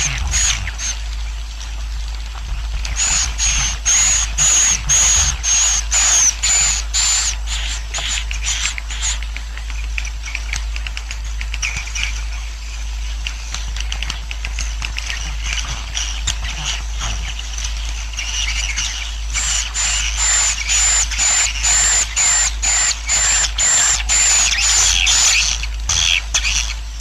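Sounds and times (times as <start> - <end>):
birds twittering chirps: 0.0 - 27.0
low hum: 0.0 - 27.0.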